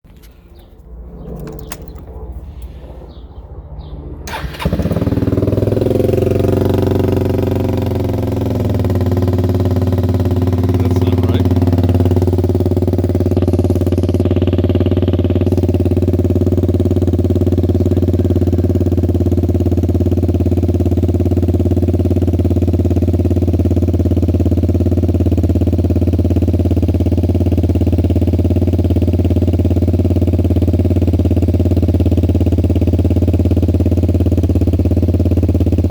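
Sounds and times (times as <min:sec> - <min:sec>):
scooter engine idling: 0:00.2 - 0:35.9.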